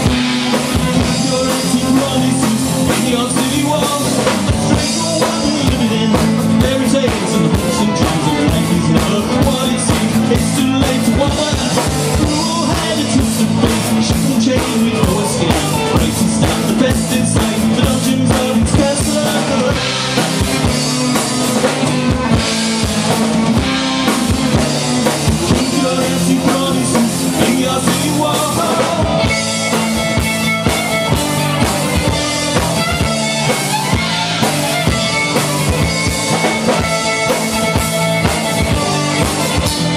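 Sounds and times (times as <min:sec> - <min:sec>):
acoustic and electric guitars: 0:00.0 - 0:39.9
drum kit beat: 0:00.0 - 0:39.9
fiddle: 0:00.0 - 0:39.9.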